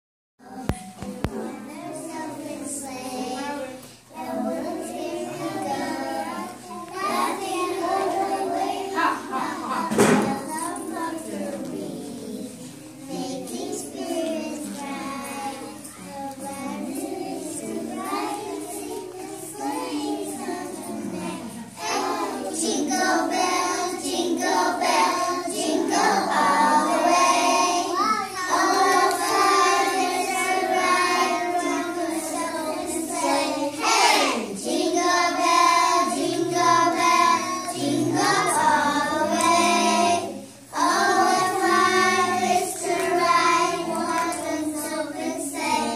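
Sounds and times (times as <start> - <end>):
young children singing: 0.4 - 45.9.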